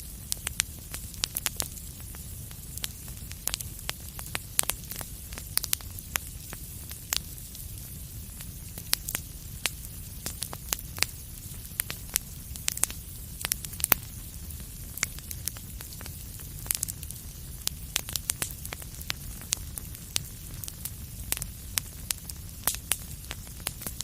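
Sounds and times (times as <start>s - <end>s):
fire popping and snapping: 0.0s - 24.0s
low rumble and hiss of fire: 0.0s - 24.0s.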